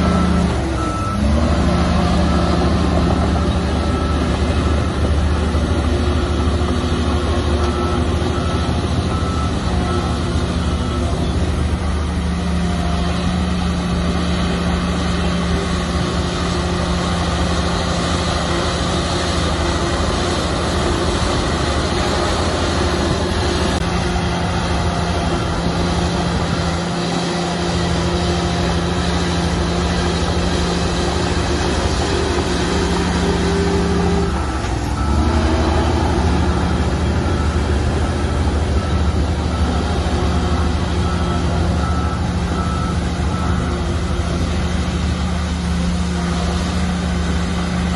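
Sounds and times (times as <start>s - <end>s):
heavy diesel engine droning: 0.0s - 47.9s.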